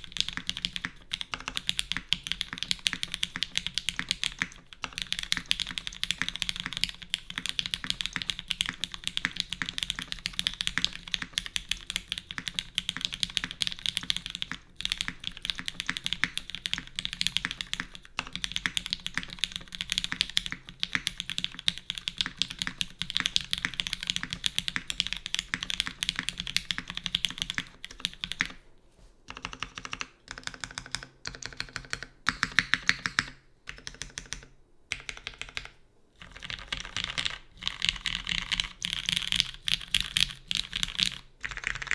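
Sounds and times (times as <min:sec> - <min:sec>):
fast mechanical keyboard typing: 0:00.0 - 0:28.6, 0:29.3 - 0:41.9.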